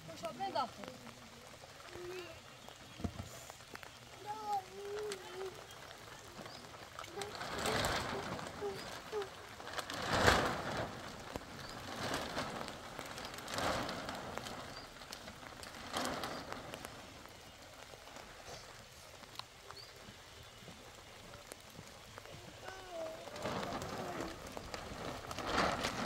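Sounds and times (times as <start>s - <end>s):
plastic sheeting rustling: 0.0s - 26.0s.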